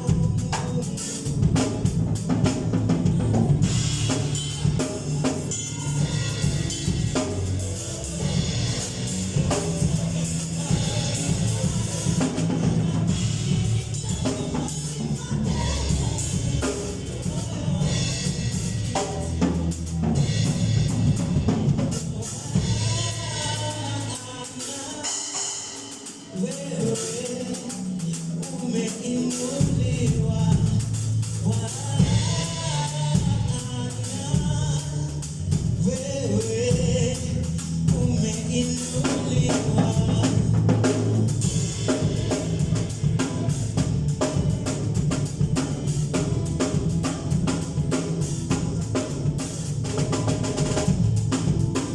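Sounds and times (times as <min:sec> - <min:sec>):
bass guitar: 0:00.0 - 0:24.7, 0:26.4 - 0:51.9
drum kit: 0:00.0 - 0:51.9
gospel singing: 0:00.0 - 0:51.9.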